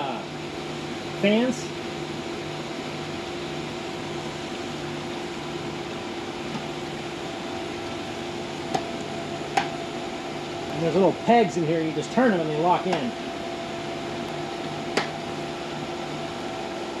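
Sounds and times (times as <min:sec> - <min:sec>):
electric inflation fans humming: 0:00.0 - 0:17.0.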